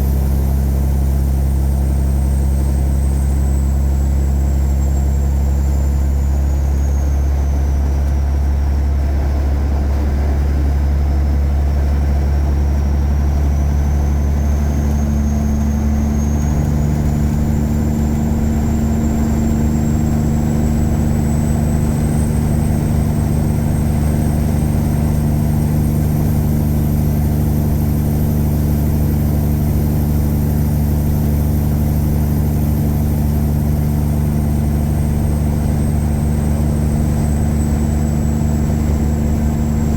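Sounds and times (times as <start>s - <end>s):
diesel truck engine drone: 0.0s - 39.9s.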